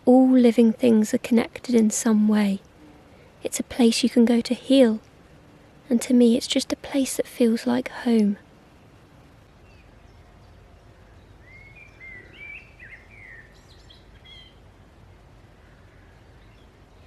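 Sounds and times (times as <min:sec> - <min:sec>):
faint outdoor background noise: 0:00.0 - 0:17.0
songbird chirping: 0:00.0 - 0:17.0.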